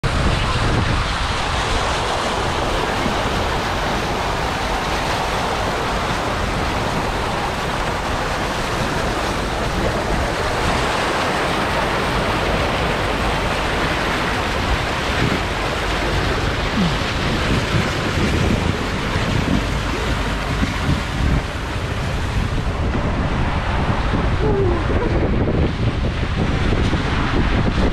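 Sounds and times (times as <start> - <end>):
water rushing down slide: 0.0 - 27.9.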